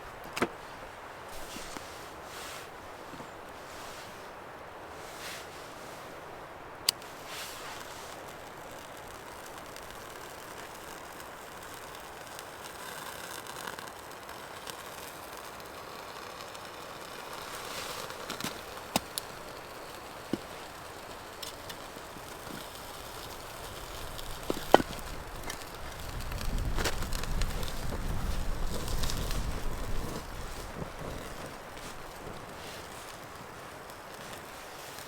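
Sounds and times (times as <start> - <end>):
sharp clicks and crackles: 6.8 - 35.0.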